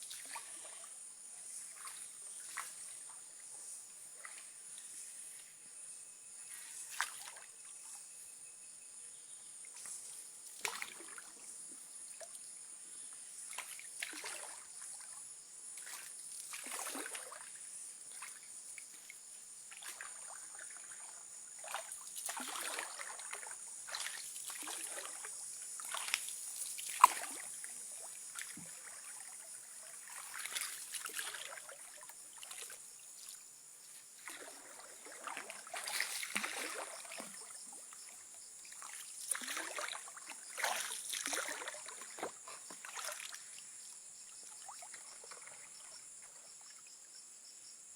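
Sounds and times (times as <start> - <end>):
paddles splashing in water: 0.0 - 0.9, 1.5 - 3.2, 4.1 - 4.7, 6.4 - 7.5, 9.7 - 12.4, 13.4 - 33.4, 34.0 - 46.8.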